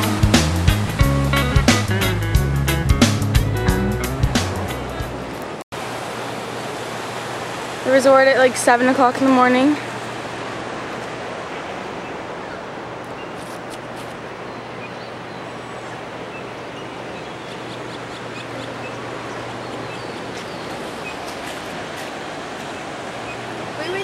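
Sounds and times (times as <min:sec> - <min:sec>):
outdoor ambience: 0:04.4 - 0:24.0.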